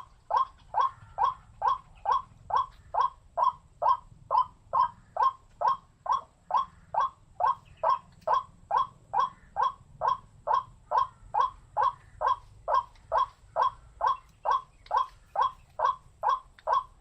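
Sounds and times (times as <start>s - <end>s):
waterhen harsh wak call: 0.0s - 17.0s.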